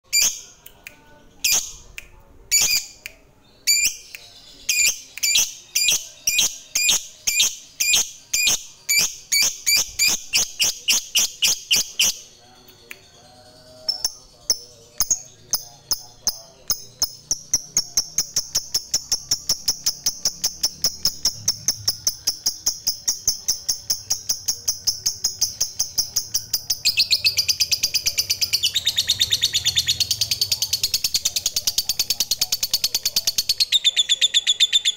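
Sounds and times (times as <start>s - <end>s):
lovebird shrill calls and chattering: 1.4s - 1.8s, 2.5s - 3.0s, 3.6s - 12.3s, 13.7s - 34.9s.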